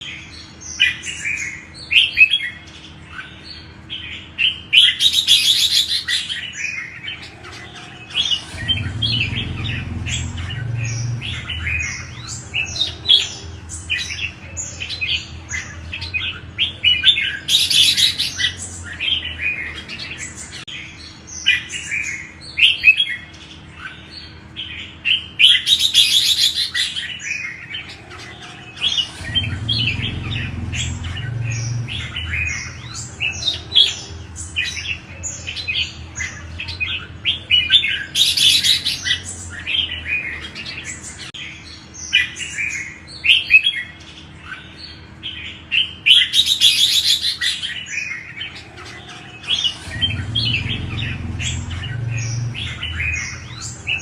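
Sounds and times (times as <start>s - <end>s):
bird rapid chatter: 0.0s - 54.0s.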